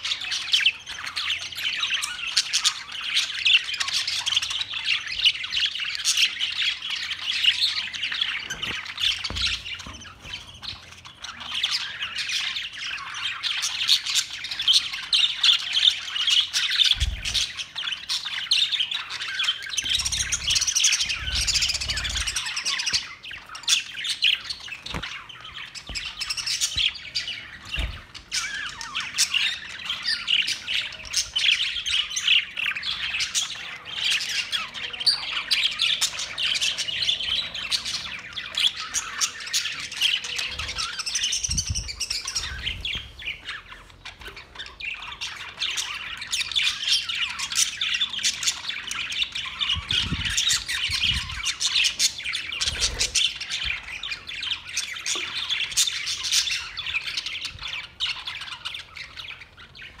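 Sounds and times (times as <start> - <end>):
budgerigars chattering and squawking: 0.0 - 60.0.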